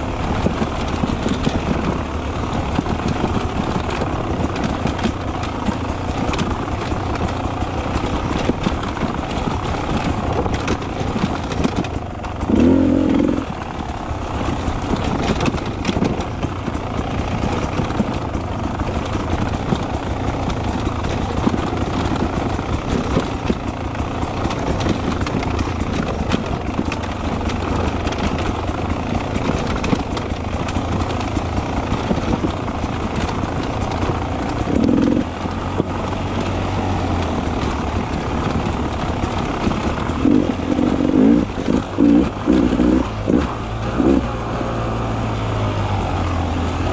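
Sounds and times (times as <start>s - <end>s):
knocks and rattles: 0.0s - 44.4s
motorcycle engine running: 0.0s - 46.9s.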